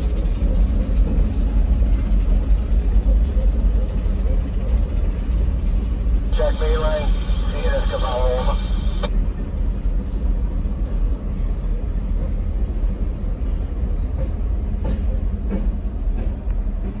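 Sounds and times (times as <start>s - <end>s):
diesel locomotive engine rumble: 0.0s - 17.0s
train wheels on rails: 0.0s - 17.0s.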